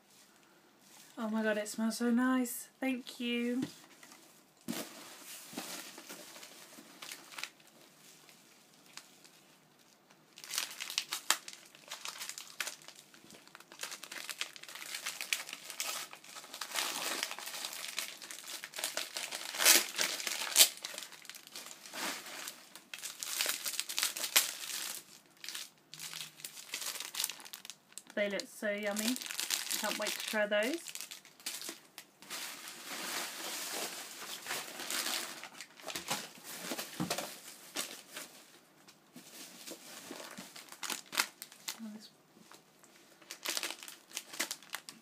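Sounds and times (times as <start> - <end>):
crinkling packaging: 3.8 - 45.0.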